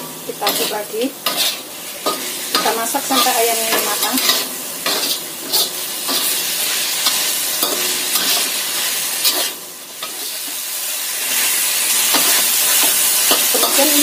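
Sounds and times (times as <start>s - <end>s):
chicken sizzling in a wok: 0.0s - 14.0s
spatula scraping wok: 0.0s - 14.0s.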